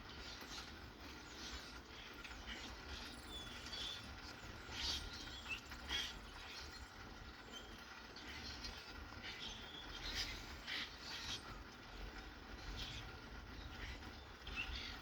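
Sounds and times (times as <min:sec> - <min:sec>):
light rain hissing: 0:00.0 - 0:15.0
birds chirping: 0:00.2 - 0:15.0.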